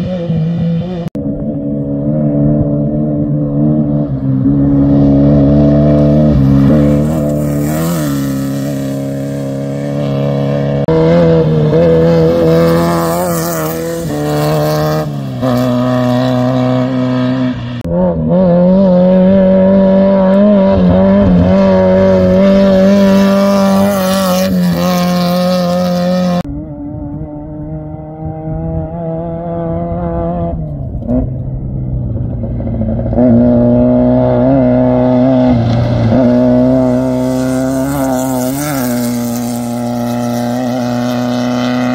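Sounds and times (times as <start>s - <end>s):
race car engines passing: 0.0s - 41.9s.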